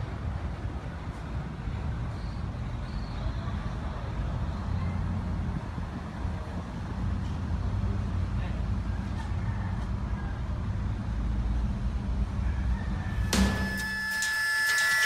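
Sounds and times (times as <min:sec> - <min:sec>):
road traffic rumble: 0:00.0 - 0:13.4.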